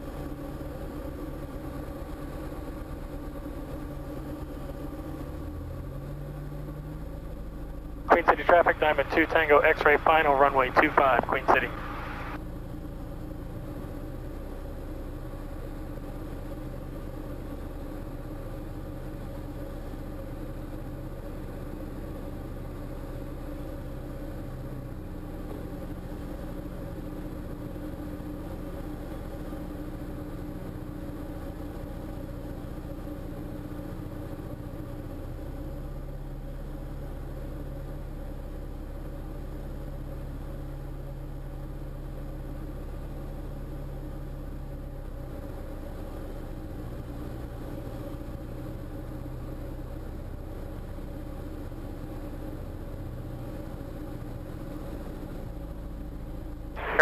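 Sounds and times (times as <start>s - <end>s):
aircraft engine and propeller droning: 0.0s - 57.0s.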